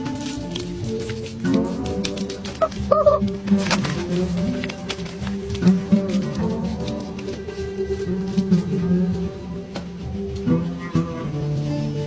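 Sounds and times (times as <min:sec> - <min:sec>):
plucked string instrument music: 0:01.5 - 0:12.0.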